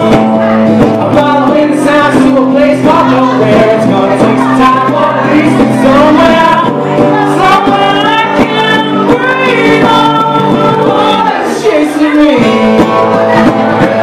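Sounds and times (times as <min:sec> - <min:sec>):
strummed acoustic guitar: 0:00.0 - 0:14.0
woman singing: 0:01.0 - 0:14.0.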